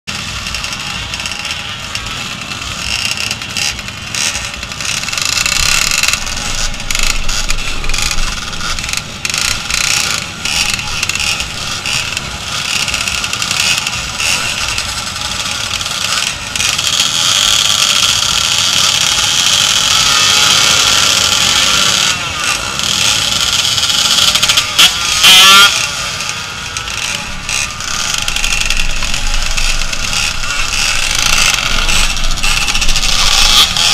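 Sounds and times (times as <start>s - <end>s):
motorcycle engines running: 0.1s - 33.9s.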